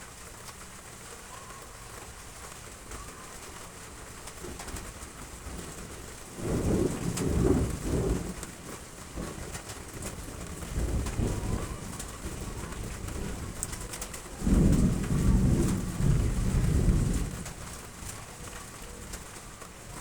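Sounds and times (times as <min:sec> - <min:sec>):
heavy rain on roof tiles: 0:00.0 - 0:20.0.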